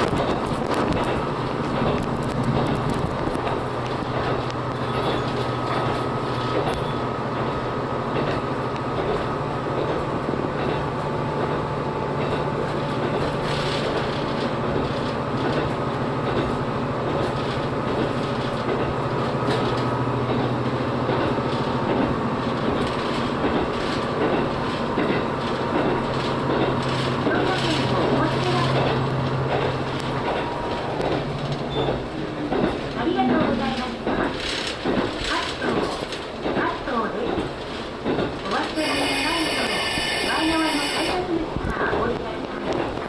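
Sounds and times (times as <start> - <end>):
wheels rumbling on rails: 0.0 - 43.0.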